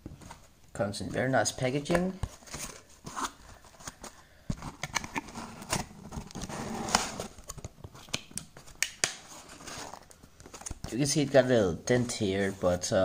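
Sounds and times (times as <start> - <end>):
cardboard packaging rustling: 1.4 - 13.0.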